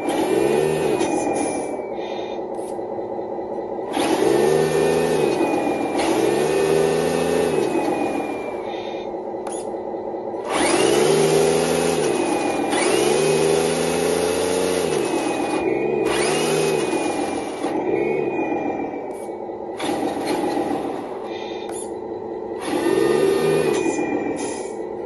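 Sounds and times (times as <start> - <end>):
simulated diesel truck engine revving: 0.0 - 1.7, 3.8 - 8.8, 10.3 - 21.5, 22.5 - 24.8
high whirring: 0.0 - 25.0.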